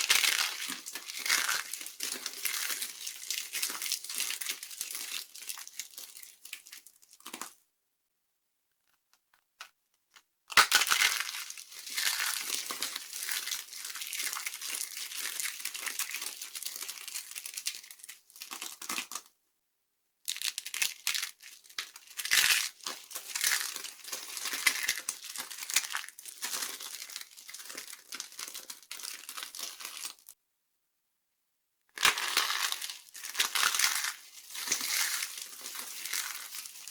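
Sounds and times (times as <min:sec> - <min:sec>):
soap crackling and crunching: 0:00.0 - 0:07.6, 0:09.6 - 0:19.3, 0:20.3 - 0:30.4, 0:31.9 - 0:36.9.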